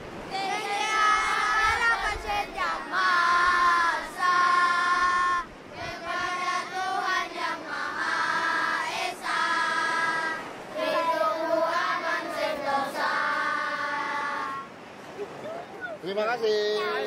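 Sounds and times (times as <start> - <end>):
young voices singing slow song: 0.2 - 14.9.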